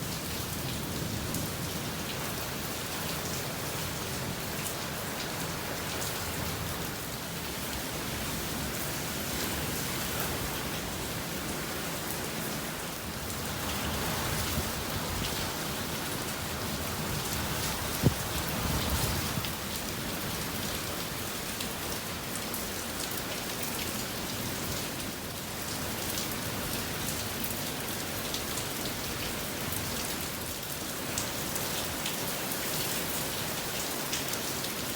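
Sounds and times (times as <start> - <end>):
rain pattering on surfaces: 0.0 - 34.9.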